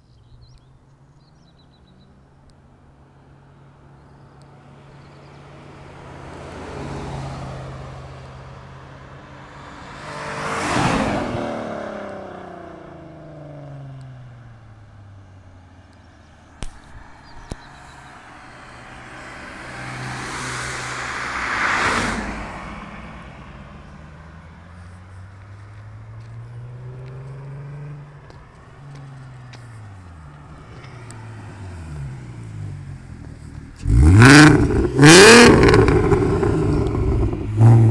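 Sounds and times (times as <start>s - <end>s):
car driving past: 4.9s - 14.6s, 16.8s - 37.9s.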